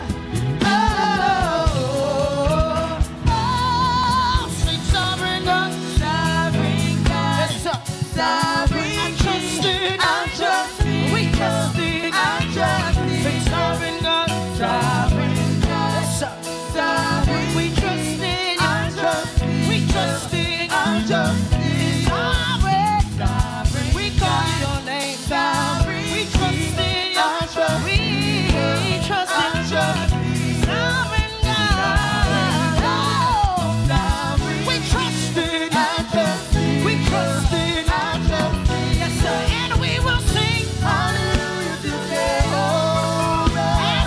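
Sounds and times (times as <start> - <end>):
backing vocalists singing: 0.0 - 44.0
keyboards with steady beat: 0.0 - 44.0
lead singer: 0.0 - 44.0.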